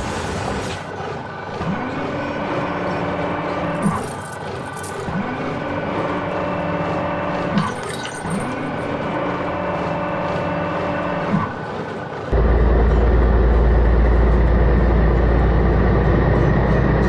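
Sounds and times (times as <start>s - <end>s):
engine-like hum: 0.6s - 17.0s.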